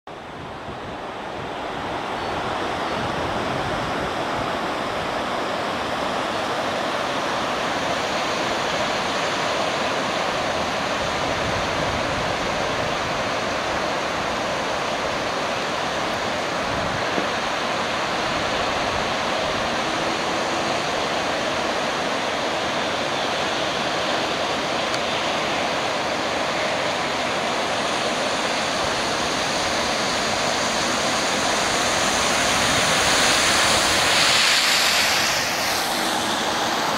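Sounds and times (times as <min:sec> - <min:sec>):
floodwater rushing: 0:00.1 - 0:36.9.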